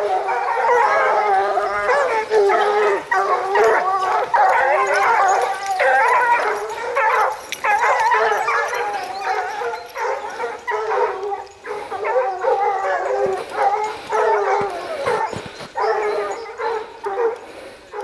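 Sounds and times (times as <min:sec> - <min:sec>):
hounds baying and howling: 0:00.0 - 0:18.0.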